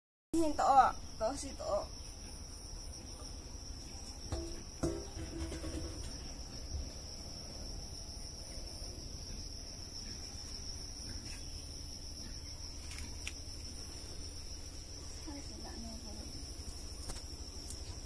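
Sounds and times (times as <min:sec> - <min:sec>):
insects droning: 0:00.4 - 0:18.0.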